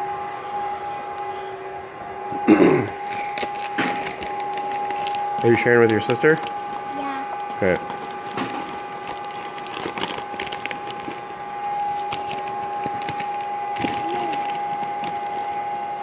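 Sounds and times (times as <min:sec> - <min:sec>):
milling machine motor whining: 0:00.0 - 0:16.0.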